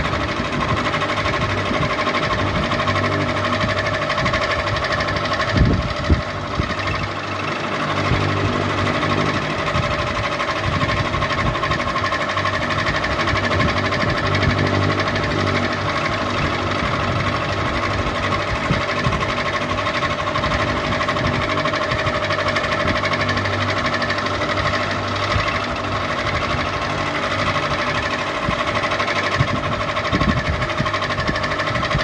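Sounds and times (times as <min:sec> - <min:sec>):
ceiling fan whirring: 0:00.0 - 0:32.0.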